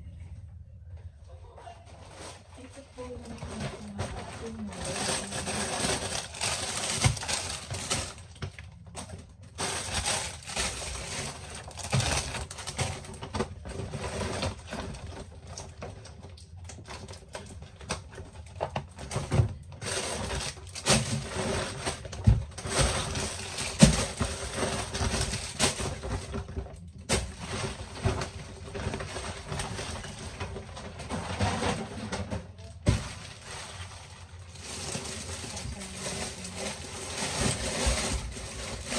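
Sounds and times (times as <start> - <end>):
plastic bags rustling: 1.8 - 38.9.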